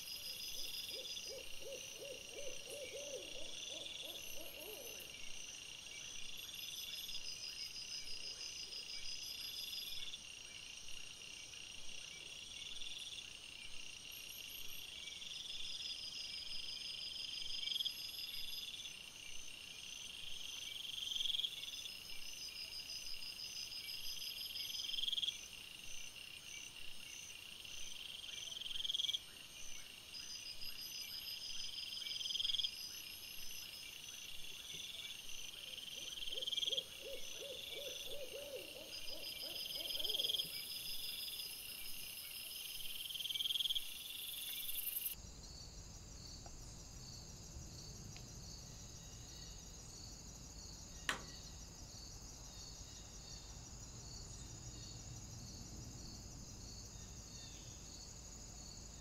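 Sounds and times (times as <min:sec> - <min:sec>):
shrill insect call: 0:00.0 - 0:59.0.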